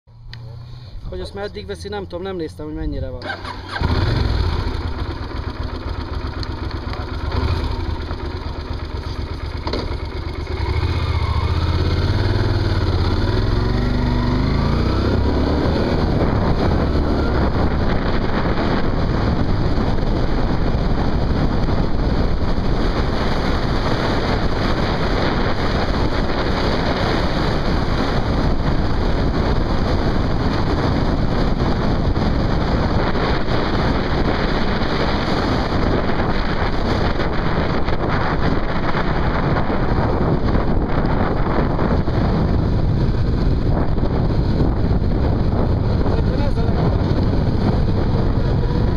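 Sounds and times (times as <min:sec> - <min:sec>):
wind rushing over microphone: 0:00.9 - 0:48.9
motorcycle engine revving: 0:03.2 - 0:48.9.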